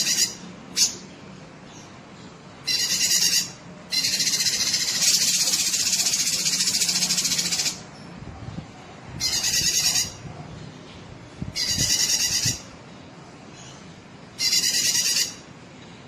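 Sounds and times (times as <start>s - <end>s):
bird singing buzzy trills: 0.0s - 8.2s, 9.2s - 10.2s, 11.4s - 16.0s.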